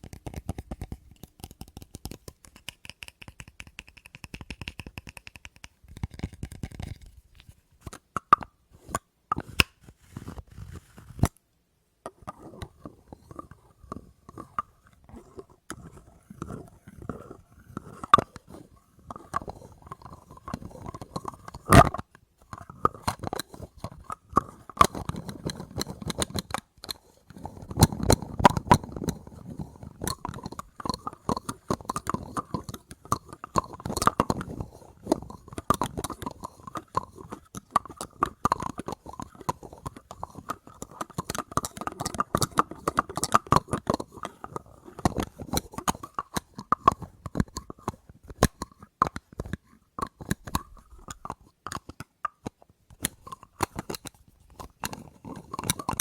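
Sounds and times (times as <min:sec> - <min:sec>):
rapid tapping on small objects: 0:00.0 - 0:07.2, 0:14.3 - 0:56.0.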